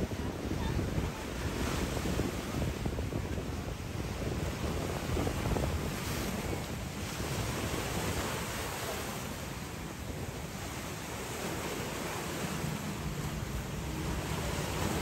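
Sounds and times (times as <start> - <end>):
sea waves breaking: 0.0 - 15.0
wind rumbling on microphone: 0.0 - 15.0.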